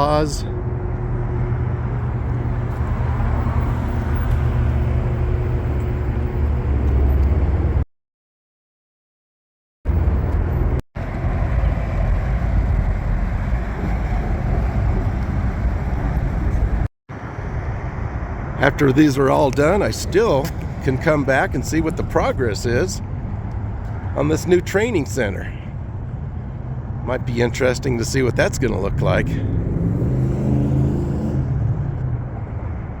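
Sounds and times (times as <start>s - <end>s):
road traffic rumble: 0.0s - 7.8s, 9.9s - 33.0s.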